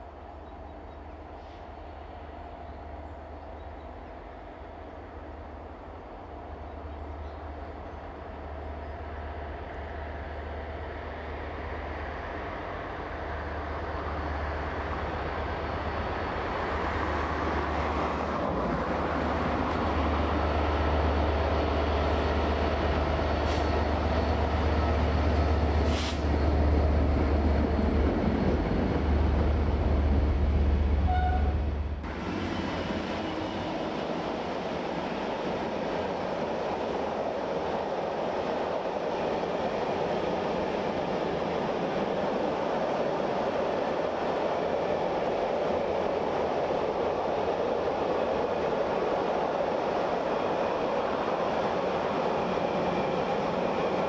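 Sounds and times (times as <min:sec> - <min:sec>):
freight train wheels rumbling: 0:00.0 - 0:54.0
train rushing past: 0:07.6 - 0:54.0.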